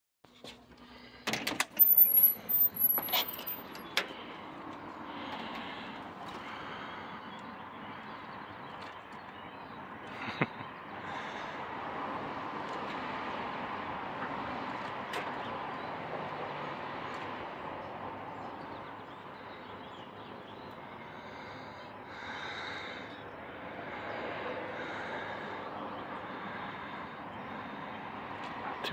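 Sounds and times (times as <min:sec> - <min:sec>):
outdoor background noise: 0:00.2 - 0:28.9.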